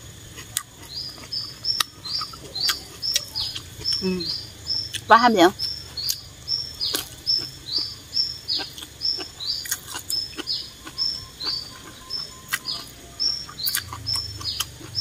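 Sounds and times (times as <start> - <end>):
bird chirping: 0.4 - 15.0.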